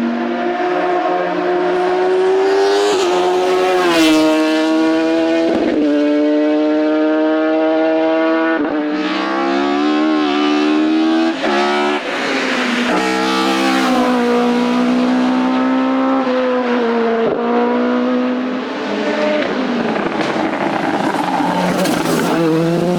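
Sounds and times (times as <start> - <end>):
race car engine at high revs: 0.0 - 22.9.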